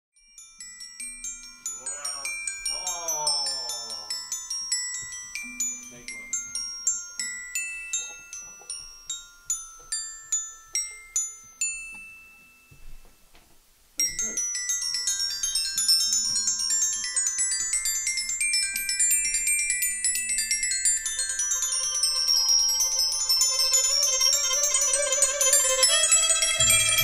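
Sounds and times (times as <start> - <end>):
bright ringing high notes music: 0.2 - 12.8, 14.0 - 27.0.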